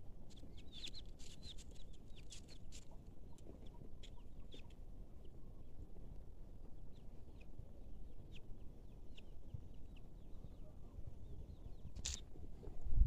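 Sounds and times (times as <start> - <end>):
faint bird chirps: 0.3 - 5.8, 6.8 - 12.7.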